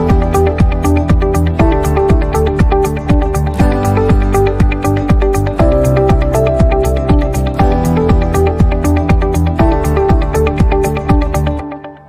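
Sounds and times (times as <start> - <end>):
kick drum beat: 0.0 - 11.5
electronic dance music: 0.0 - 11.7
synth notes: 0.0 - 12.0.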